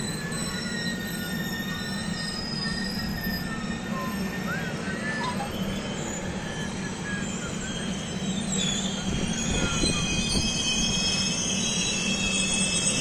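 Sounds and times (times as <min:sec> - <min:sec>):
train rumbling: 0:00.0 - 0:13.0
train wheels squealing on rails: 0:00.0 - 0:13.0.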